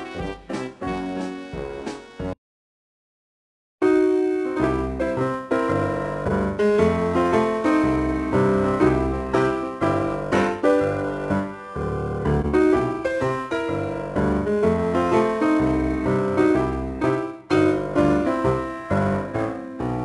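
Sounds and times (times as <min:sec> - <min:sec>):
piano music: 0:00.0 - 0:02.4, 0:03.8 - 0:20.0.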